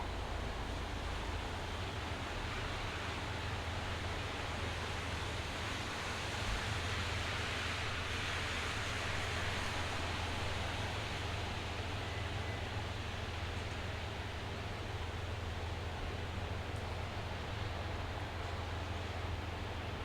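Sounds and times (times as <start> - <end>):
steady rain shower: 0.0 - 20.0.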